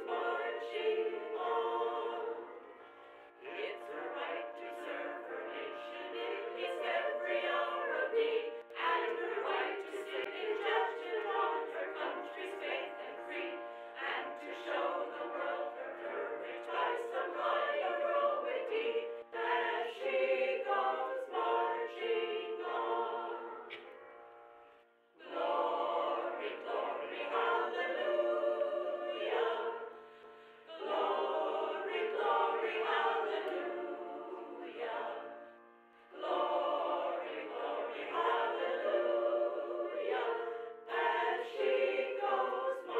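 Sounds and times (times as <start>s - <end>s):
choir singing: 0.0s - 24.0s, 25.2s - 42.9s.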